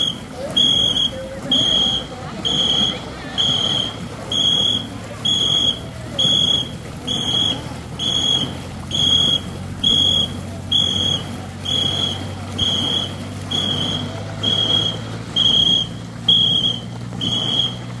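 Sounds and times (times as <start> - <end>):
short high-pitched whistle blasts: 0.0 - 17.9
low steady hum: 0.0 - 18.0.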